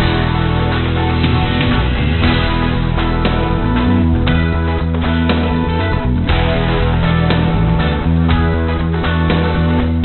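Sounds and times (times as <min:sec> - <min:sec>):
electric guitar music with beat: 0:00.0 - 0:10.0.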